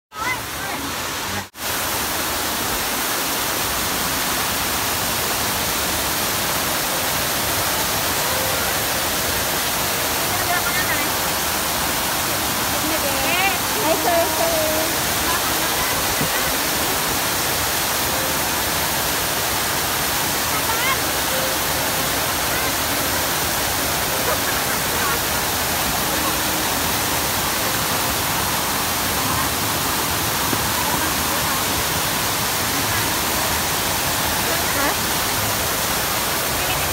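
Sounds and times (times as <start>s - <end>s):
fountain water splashing into pool: 0.2s - 36.9s.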